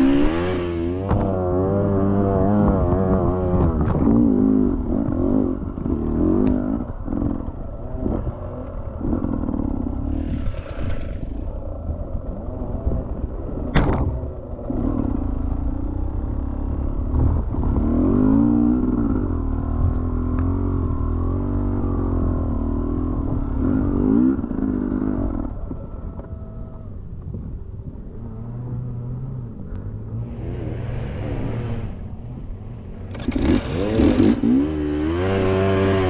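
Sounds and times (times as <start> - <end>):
dirt bike engine revving: 0.0 - 13.7, 14.7 - 25.6, 28.1 - 36.0.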